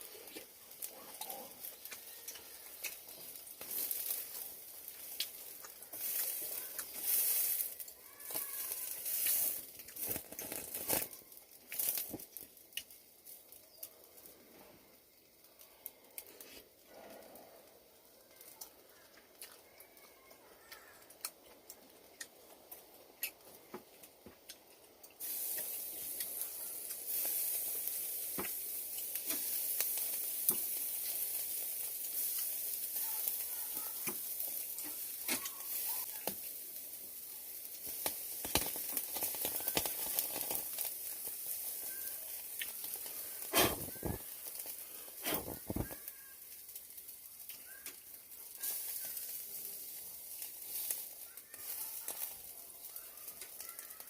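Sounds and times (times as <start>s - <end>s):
food sizzling in a pan: 0.0s - 21.3s, 25.1s - 54.0s.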